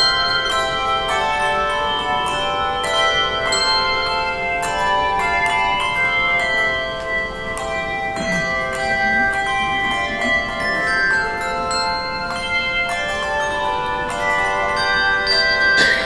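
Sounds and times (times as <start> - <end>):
handbells playing melody: 0.0 - 16.0.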